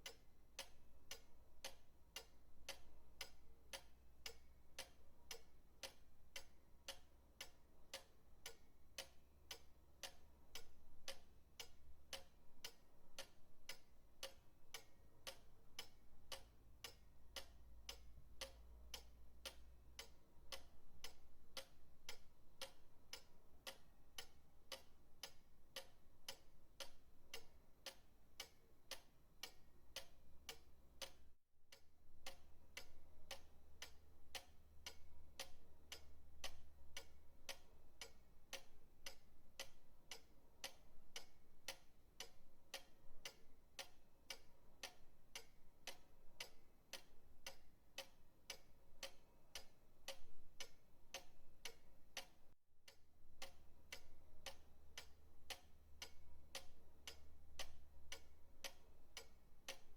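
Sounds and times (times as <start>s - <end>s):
pendulum clock ticking: 0.0s - 59.9s.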